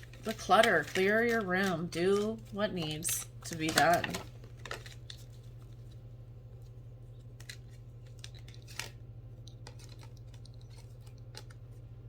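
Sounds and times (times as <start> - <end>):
cards clicking and rustling: 0.0 - 6.0, 7.1 - 11.8
steady low hum: 0.0 - 12.0.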